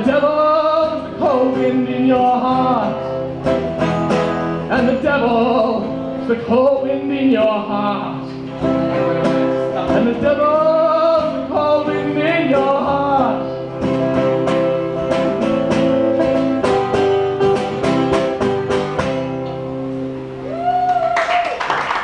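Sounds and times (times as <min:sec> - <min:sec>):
strummed acoustic guitar: 0:00.0 - 0:20.4.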